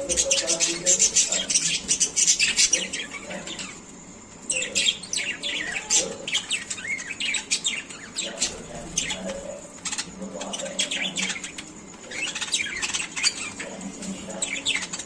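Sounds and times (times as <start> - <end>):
parrots chirping: 0.0 - 15.0.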